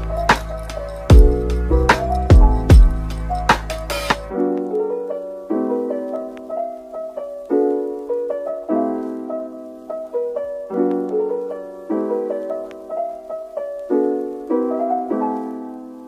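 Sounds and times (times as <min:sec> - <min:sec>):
instrumental music chords: 0:00.0 - 0:16.0.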